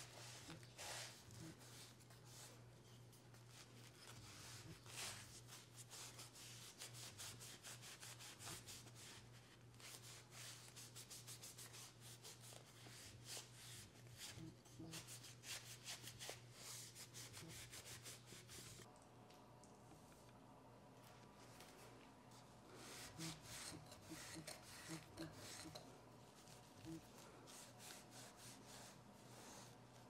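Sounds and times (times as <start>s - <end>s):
cloth rubbing a wooden spoon: 0.0s - 18.9s, 21.3s - 30.0s.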